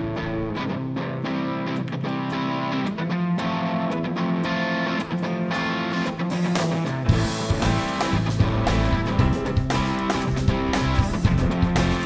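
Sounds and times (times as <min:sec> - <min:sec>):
electric guitar: 0:00.0 - 0:12.0
sustained keyboard chords: 0:00.0 - 0:12.0.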